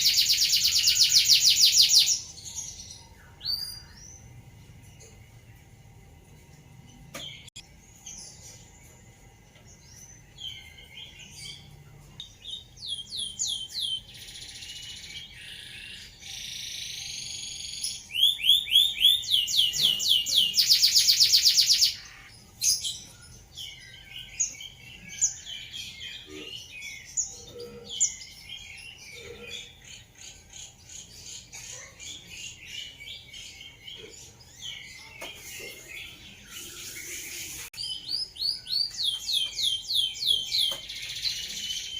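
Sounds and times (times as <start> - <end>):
canary singing: 0.0 - 5.8, 6.8 - 41.9.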